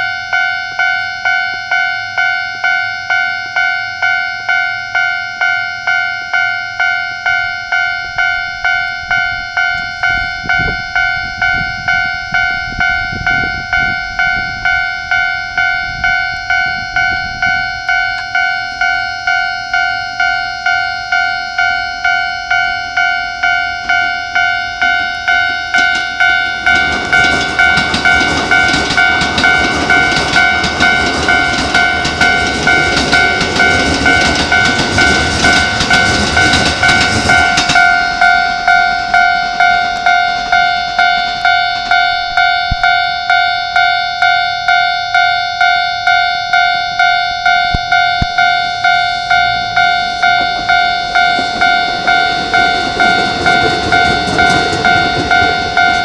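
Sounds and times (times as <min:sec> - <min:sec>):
electric train passing: 0:00.0 - 0:56.0
level crossing alarm dinging: 0:00.0 - 0:56.0.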